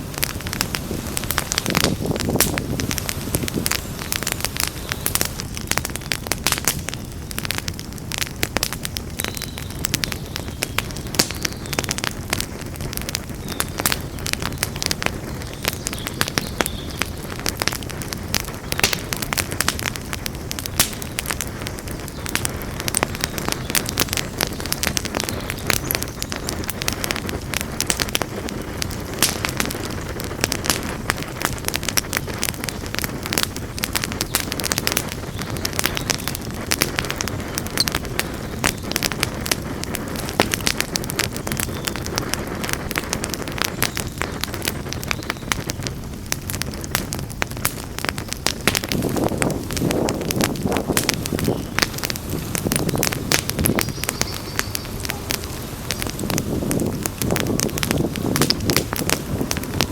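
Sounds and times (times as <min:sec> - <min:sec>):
burning wood crackling and popping: 0:00.0 - 0:59.9
low rumble of flames: 0:00.0 - 0:59.9.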